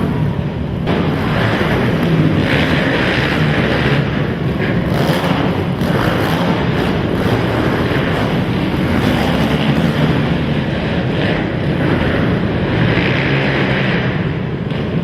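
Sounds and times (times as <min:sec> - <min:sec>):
racing quad engines: 0:00.0 - 0:15.0.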